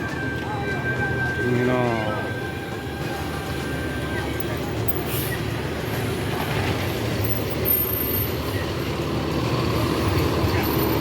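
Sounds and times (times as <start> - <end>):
bus diesel engine rumbling: 0.0 - 11.0.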